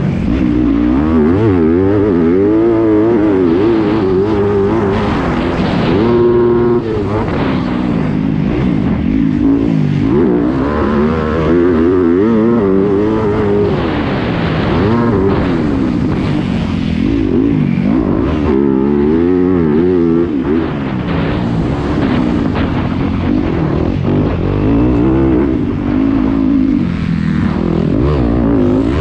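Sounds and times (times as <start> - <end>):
motorcycle engine revving hard: 0.0 - 29.0.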